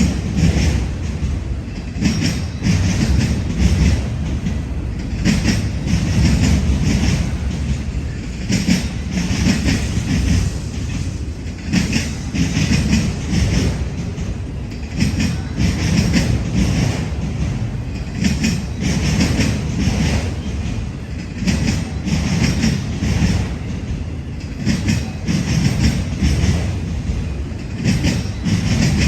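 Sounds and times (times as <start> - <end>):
freight train rumble: 0.0 - 29.0
train wheels clicking over rail joints: 0.0 - 29.0.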